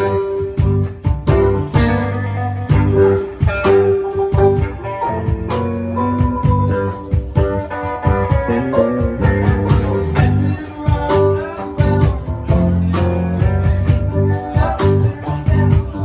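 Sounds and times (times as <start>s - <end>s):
band playing: 0.0s - 16.0s
guitar: 0.0s - 16.0s.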